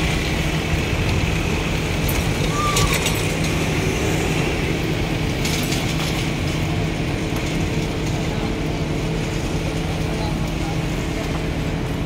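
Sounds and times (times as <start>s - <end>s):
diesel machinery droning: 0.0s - 12.0s.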